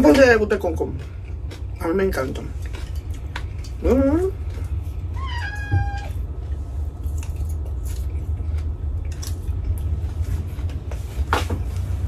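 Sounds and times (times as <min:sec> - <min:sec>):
steady low hum: 0:00.0 - 0:12.0
person chewing crispy rice: 0:00.6 - 0:05.2, 0:06.1 - 0:12.0.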